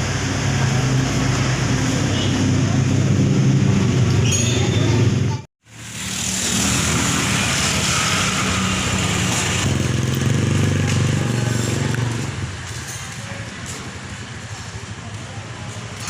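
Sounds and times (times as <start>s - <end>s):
street noise: 0.0s - 16.0s.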